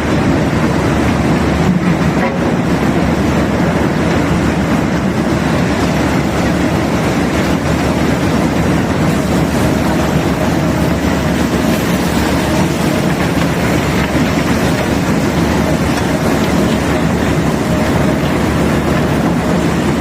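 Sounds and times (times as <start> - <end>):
rumbling machinery: 0.0 - 20.0.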